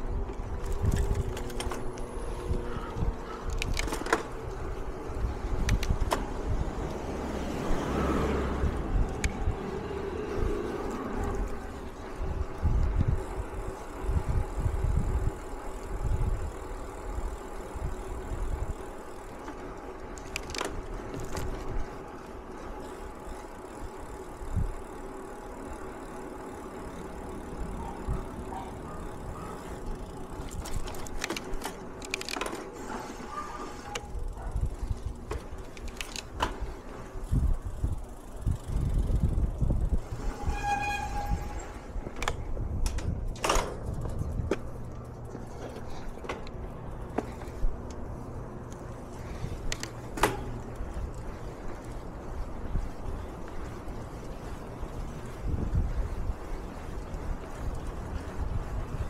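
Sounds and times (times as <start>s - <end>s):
vehicle engine hum: 0.0s - 59.0s.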